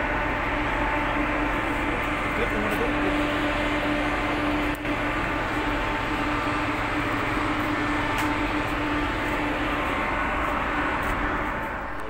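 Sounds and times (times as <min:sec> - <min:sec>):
ship machinery humming: 0:00.0 - 0:12.0.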